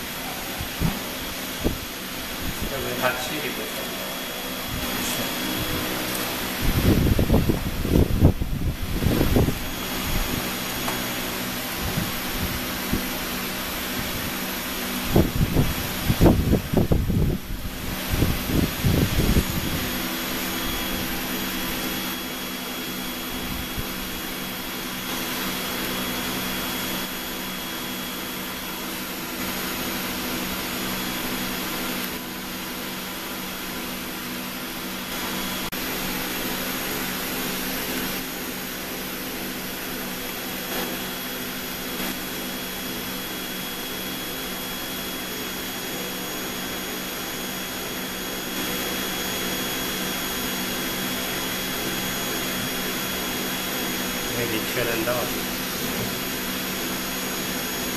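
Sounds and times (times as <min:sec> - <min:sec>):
exhaust blower whirring: 0:00.0 - 0:57.9.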